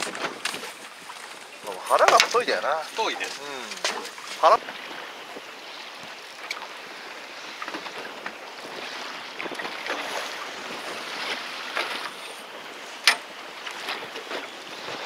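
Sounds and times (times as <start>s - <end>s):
sea wash: 0.0s - 15.0s
wind: 0.0s - 15.0s.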